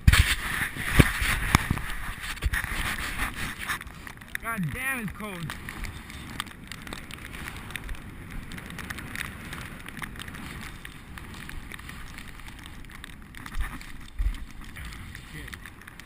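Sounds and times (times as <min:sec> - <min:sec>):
bicycle tyres on snow: 0:00.0 - 0:16.0
wind noise: 0:00.0 - 0:16.0.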